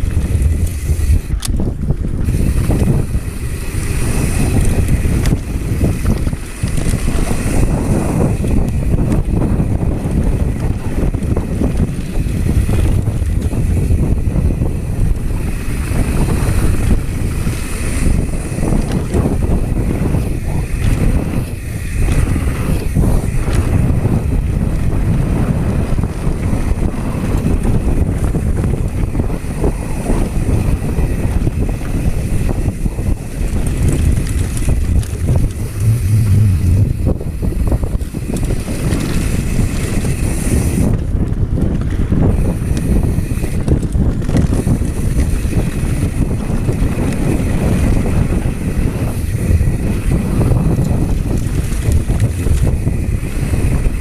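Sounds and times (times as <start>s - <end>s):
bike clattering over bumps: 0.0s - 54.0s
tyres rumbling on dirt trail: 0.0s - 54.0s
wind buffeting microphone: 0.0s - 54.0s.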